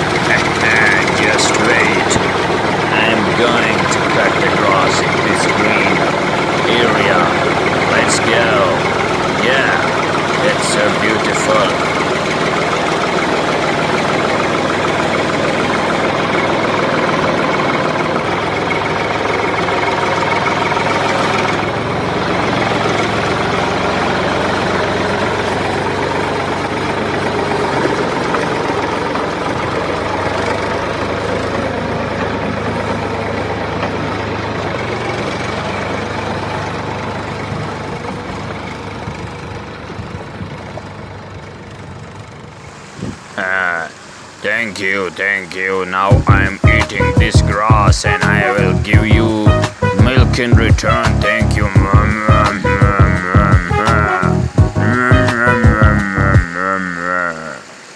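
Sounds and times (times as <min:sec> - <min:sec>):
heavy excavator engine running: 0:00.0 - 0:57.9.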